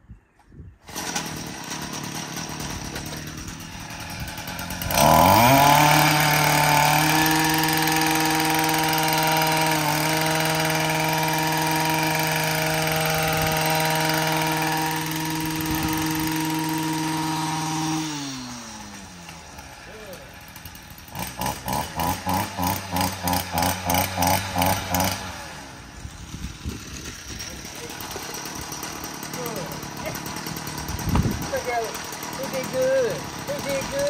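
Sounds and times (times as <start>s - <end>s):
string trimmer engine revving: 0.8s - 34.0s.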